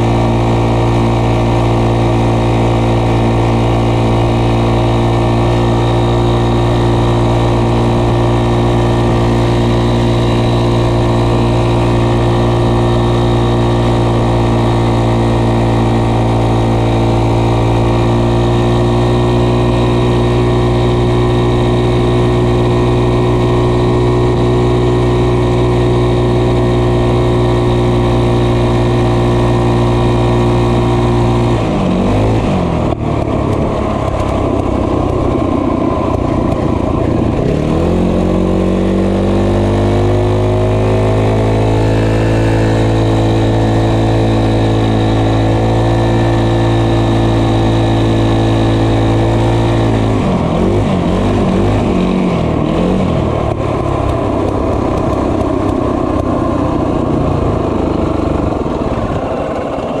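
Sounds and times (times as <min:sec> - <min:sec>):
small motorbike engine: 0:00.0 - 1:00.0.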